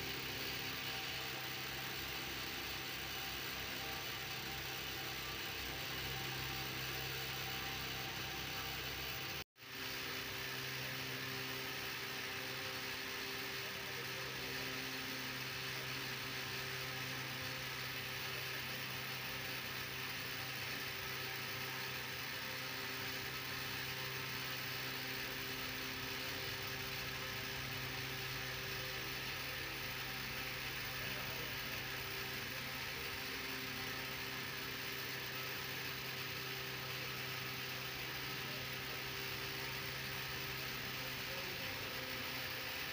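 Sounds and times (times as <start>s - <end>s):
constant hiss: 0.0s - 42.9s
machine hum: 0.0s - 42.9s.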